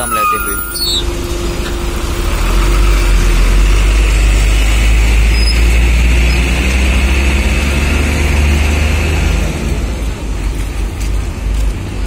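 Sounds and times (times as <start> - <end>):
truck diesel engine passing: 0.0 - 12.0.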